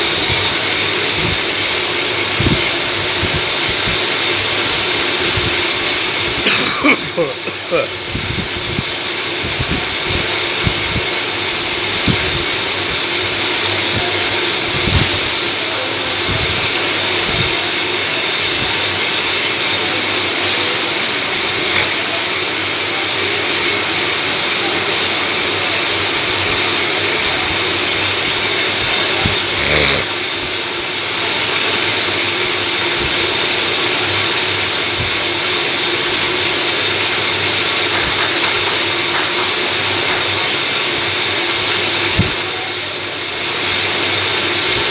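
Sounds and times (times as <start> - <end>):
metal lathe hum and whine: 0.0 - 44.9.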